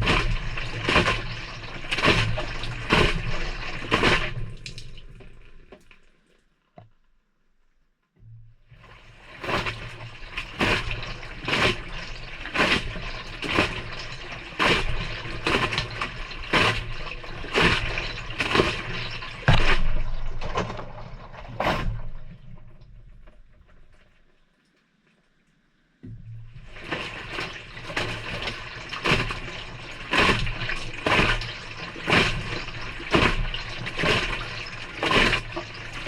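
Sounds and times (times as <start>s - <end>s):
washing machine motor hum: 0.0s - 5.5s, 8.3s - 22.8s, 26.0s - 36.0s
clothes splashing in drum: 0.0s - 6.1s, 8.6s - 24.2s, 26.1s - 36.0s.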